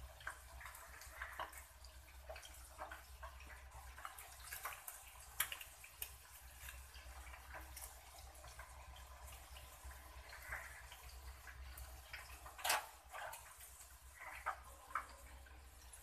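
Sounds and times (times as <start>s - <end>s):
small clicks and ticks: 0.0s - 16.0s.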